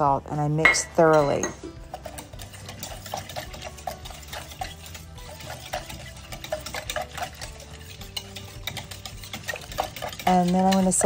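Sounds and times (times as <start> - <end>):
soft background music: 0.0 - 11.0
wire whisk clicking in metal bowl: 1.2 - 11.0.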